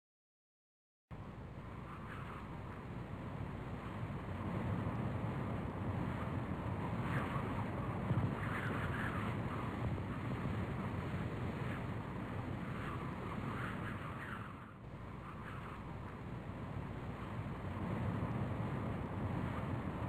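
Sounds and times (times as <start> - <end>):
wind buffeting a microphone: 1.5 - 20.0.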